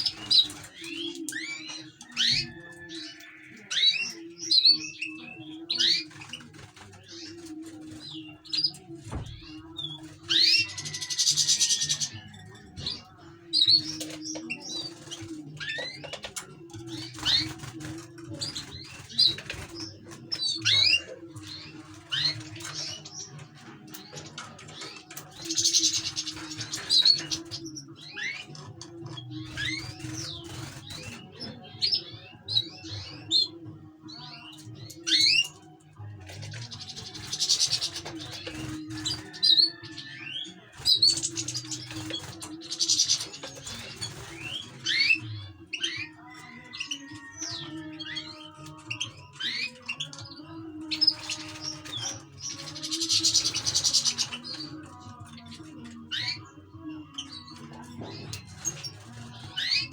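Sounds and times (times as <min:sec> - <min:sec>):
finches singing: 0:00.0 - 0:59.9.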